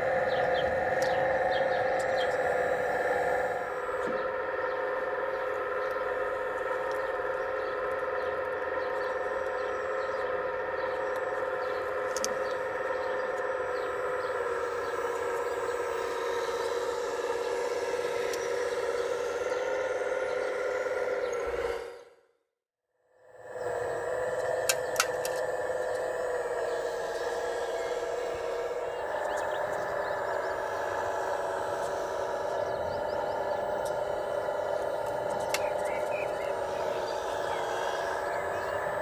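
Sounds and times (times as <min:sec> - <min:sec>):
hydraulic pump whining: 0:00.0 - 0:22.2, 0:23.2 - 0:39.0.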